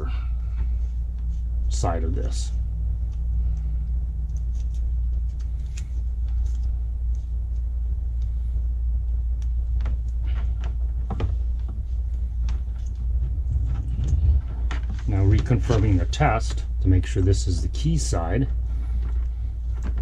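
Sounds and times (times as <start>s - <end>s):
low background rumble: 0.0s - 20.0s
rustles and light clicks: 0.4s - 16.8s, 18.4s - 20.0s.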